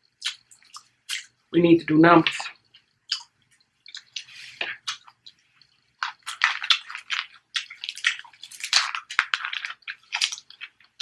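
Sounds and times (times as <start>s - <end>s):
wet squishy eating noises: 0.0s - 11.0s.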